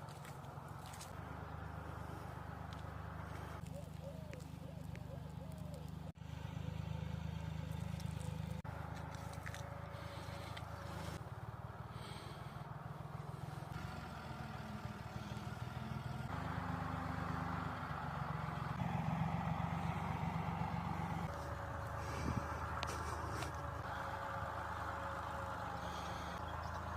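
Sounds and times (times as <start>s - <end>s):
vehicle engine humming: 0.0s - 26.9s.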